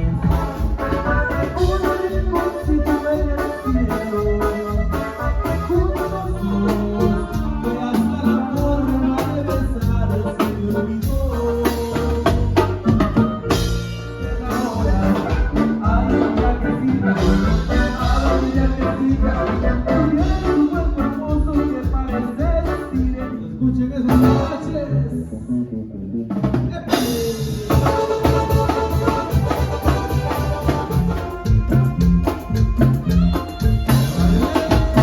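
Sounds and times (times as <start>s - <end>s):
person singing: 0.0s - 13.3s, 14.2s - 25.5s, 30.7s - 35.0s.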